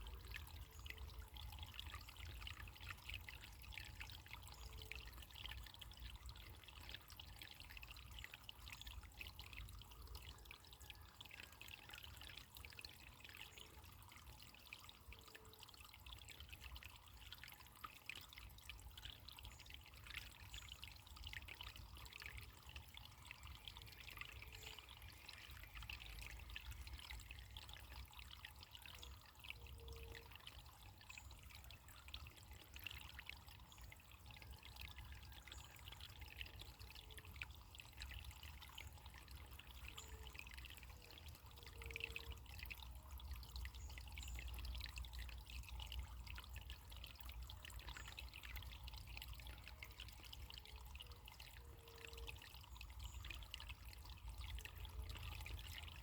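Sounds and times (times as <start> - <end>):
water trickling and babbling: 0.0 - 56.0.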